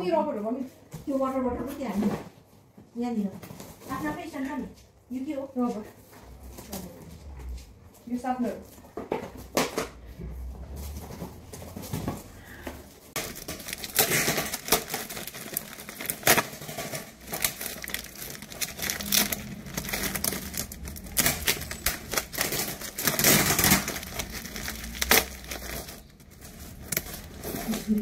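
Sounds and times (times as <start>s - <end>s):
crinkling and rustling: 0.3s - 28.0s.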